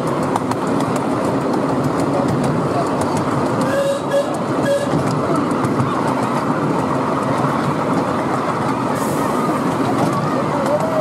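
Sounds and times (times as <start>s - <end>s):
miniature train cars rumbling: 0.0s - 11.0s
train wheels clicking: 0.0s - 11.0s.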